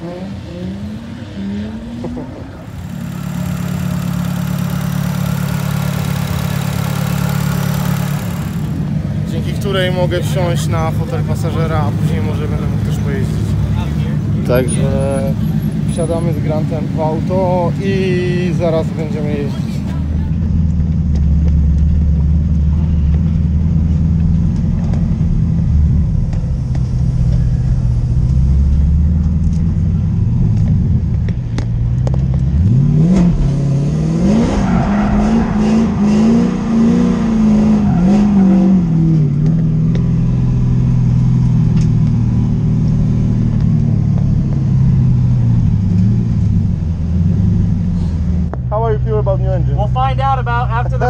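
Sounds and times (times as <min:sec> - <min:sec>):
car engine idling and revving: 0:00.0 - 0:51.0.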